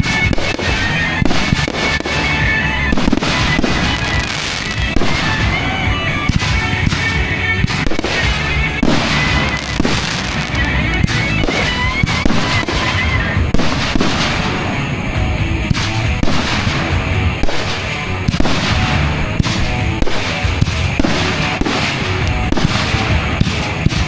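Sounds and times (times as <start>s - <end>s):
fireworks bangs and crackles: 0.0s - 24.0s
music playing: 0.0s - 24.0s.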